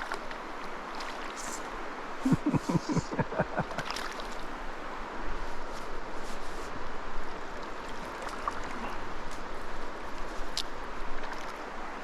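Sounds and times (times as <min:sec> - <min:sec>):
river flowing: 0:00.0 - 0:12.0.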